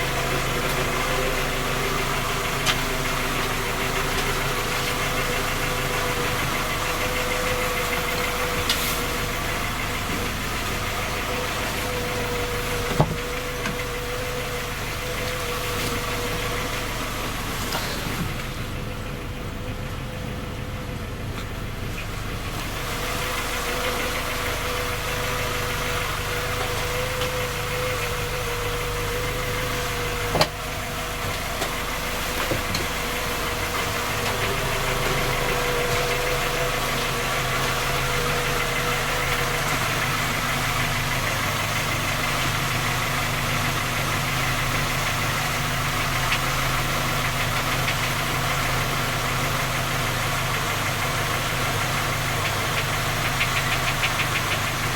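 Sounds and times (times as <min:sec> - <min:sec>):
car engine running with a knock: 0:00.0 - 0:54.9.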